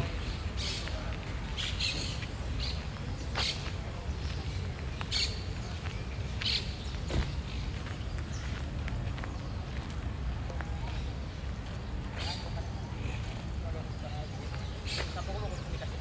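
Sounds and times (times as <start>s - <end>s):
small birds chirping: 0.0s - 10.1s, 10.8s - 16.0s
street low rumble: 0.0s - 16.0s.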